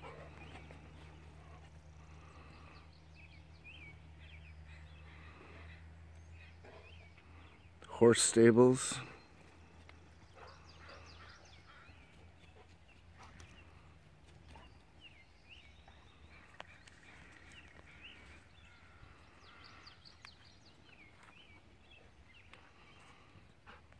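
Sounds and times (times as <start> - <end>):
faint birdsong: 0.0 - 23.9.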